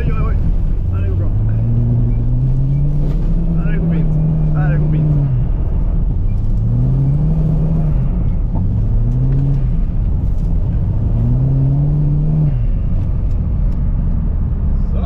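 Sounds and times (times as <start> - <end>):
car engine revving: 0.0 - 15.0
low rumble: 0.0 - 15.0.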